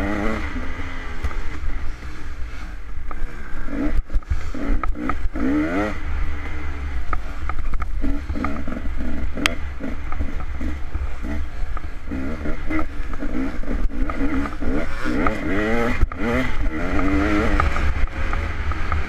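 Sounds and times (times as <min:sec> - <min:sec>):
dirt bike engine revving: 0:00.0 - 0:19.0
knocks and rattles from bike: 0:00.0 - 0:19.0.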